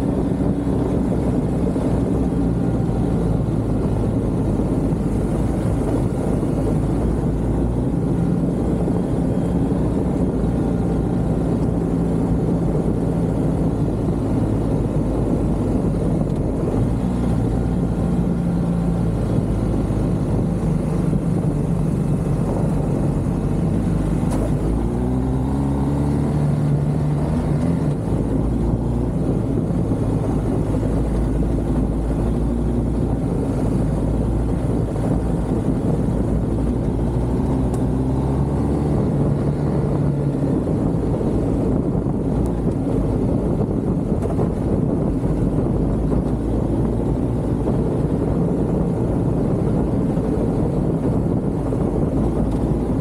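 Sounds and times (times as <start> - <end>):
road noise: 0.0 - 53.0
vehicle engine running: 0.0 - 53.0.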